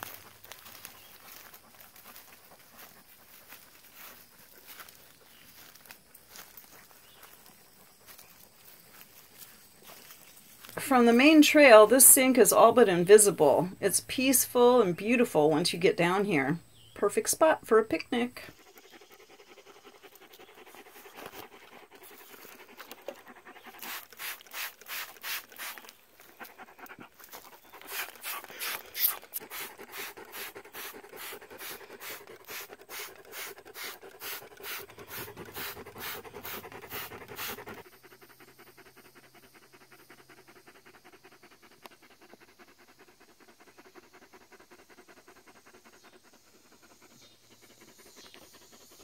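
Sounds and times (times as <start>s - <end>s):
dog panting hard: 0.0s - 15.9s, 18.2s - 49.0s.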